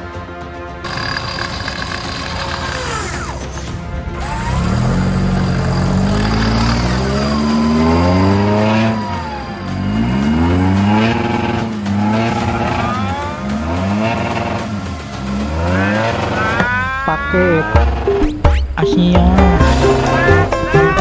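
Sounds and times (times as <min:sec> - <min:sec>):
engine revving hard: 0:00.8 - 0:21.0.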